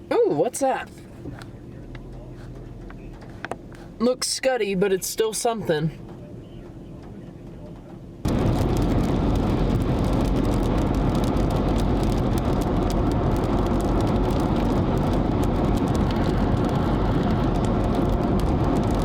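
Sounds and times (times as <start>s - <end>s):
car driving: 0.0s - 19.0s.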